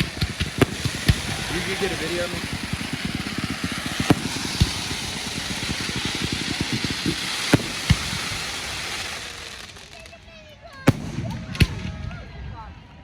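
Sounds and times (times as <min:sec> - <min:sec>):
fireworks banging: 0:00.0 - 0:12.4.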